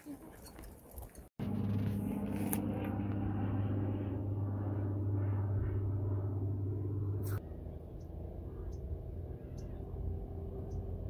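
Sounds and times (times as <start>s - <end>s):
low engine-like hum: 1.4s - 11.0s.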